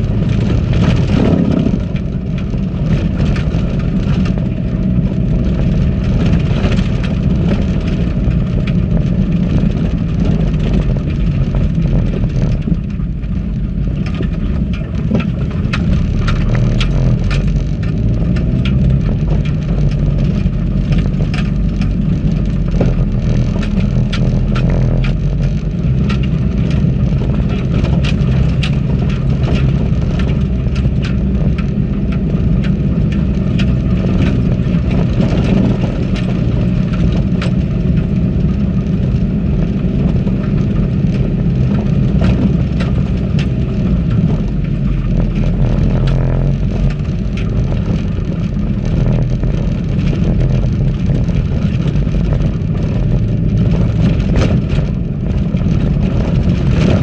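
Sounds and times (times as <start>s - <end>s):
knocks and clatter on gravel: 0.0s - 57.0s
vehicle engine running: 0.0s - 57.0s.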